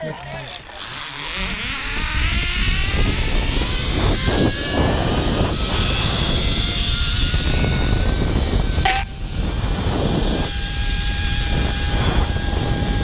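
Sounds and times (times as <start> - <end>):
continuous low rush: 0.0 - 13.0
zipline pulleys whining on cable: 0.0 - 13.0.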